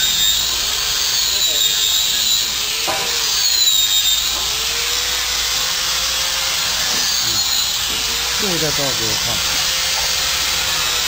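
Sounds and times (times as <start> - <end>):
motor whirring hiss: 0.0 - 11.0.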